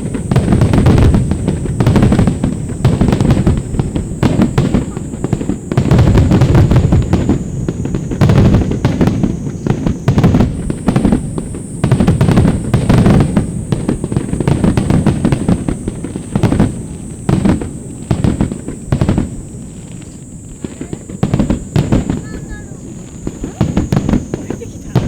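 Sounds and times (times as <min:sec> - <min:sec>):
fireworks booming and cracking: 0:00.0 - 0:25.0.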